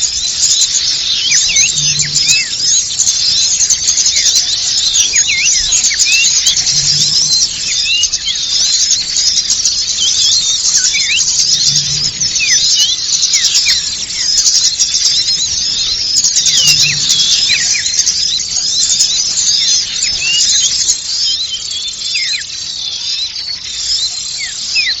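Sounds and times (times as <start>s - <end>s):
songbirds chattering and chirping: 0.0s - 25.0s.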